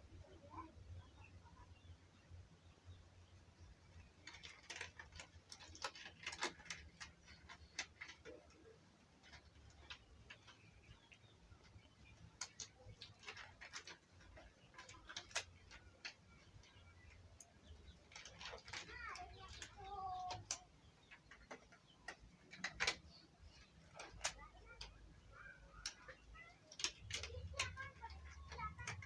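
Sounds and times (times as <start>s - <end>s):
faint clicks and taps: 3.3s - 29.0s.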